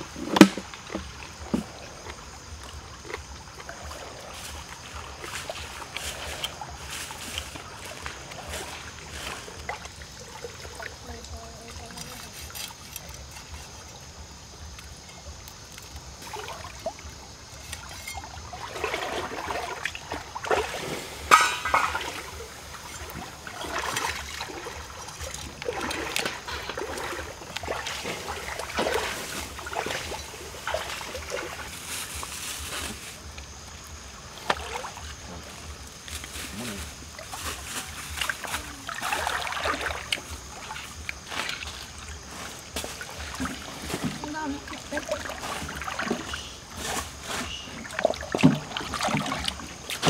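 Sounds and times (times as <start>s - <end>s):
stream trickling: 0.0s - 50.0s.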